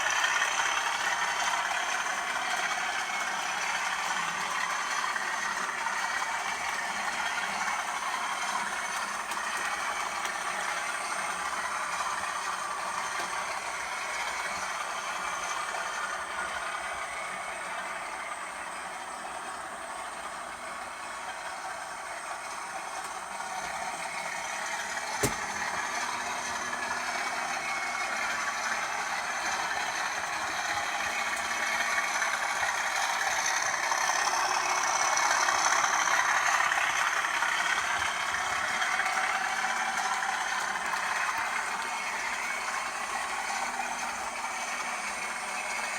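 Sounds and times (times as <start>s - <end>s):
diesel locomotive engine running: 0.0s - 45.9s.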